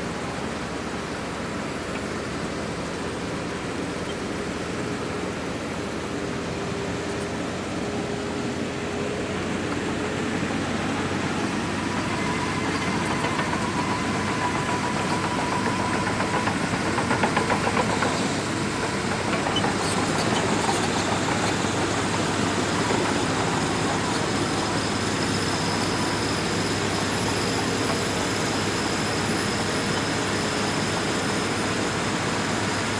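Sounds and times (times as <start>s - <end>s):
bulldozer diesel engine: 0.0s - 32.9s.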